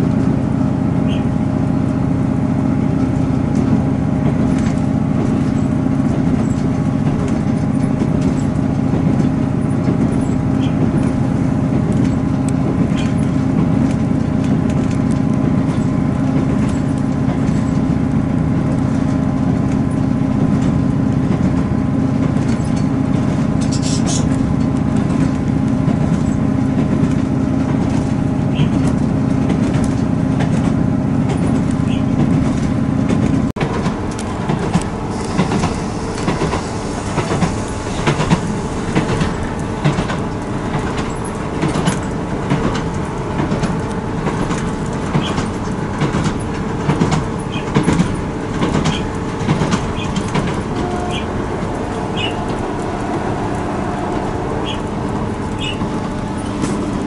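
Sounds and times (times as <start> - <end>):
train engine drone: 0.0 - 57.0
wheels rumbling on rails: 0.0 - 57.0.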